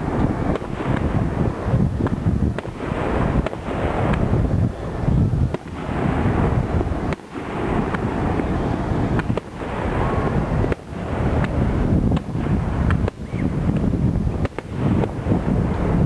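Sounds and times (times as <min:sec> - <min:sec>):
firework shells bursting: 0:00.0 - 0:16.0
wind noise on microphone: 0:00.0 - 0:16.0.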